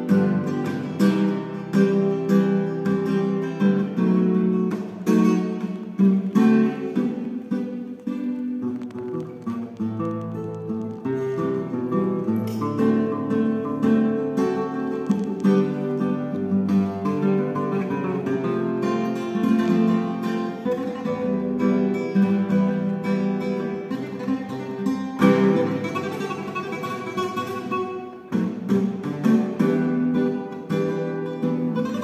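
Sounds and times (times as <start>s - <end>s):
classical guitar playing: 0.0s - 32.0s.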